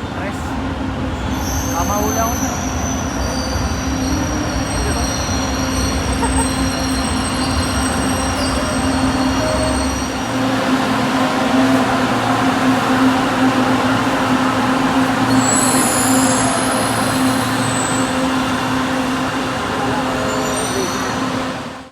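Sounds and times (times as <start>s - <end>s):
electric train running on track: 0.0s - 21.9s.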